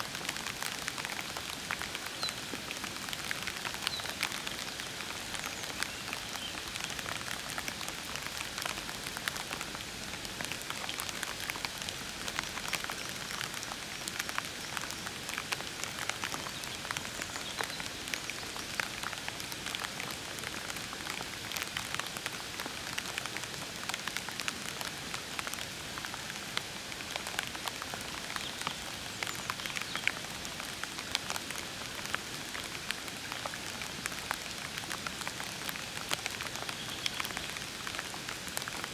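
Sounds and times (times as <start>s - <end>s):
raindrops pattering on leaves: 0.0s - 38.9s
steady rain falling: 0.0s - 38.9s.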